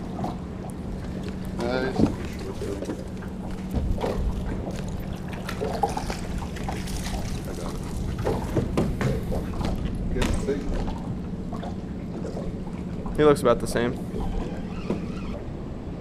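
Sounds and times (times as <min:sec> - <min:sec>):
low hum: 0:00.0 - 0:16.0
water lapping against boat: 0:00.0 - 0:16.0.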